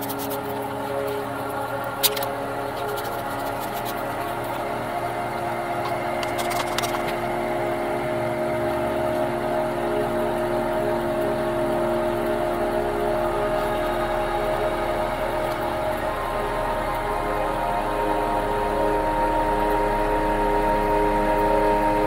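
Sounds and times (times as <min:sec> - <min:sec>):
slow calm droning music: 0:00.0 - 0:22.0.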